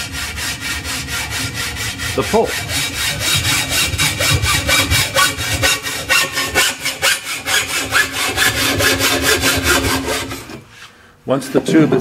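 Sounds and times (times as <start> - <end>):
saw cutting metal tube: 0.0 - 10.6.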